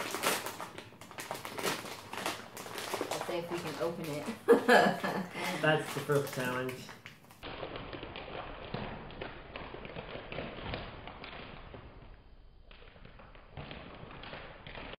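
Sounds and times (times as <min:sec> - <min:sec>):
foil snack packet crinkling: 0:00.0 - 0:15.0.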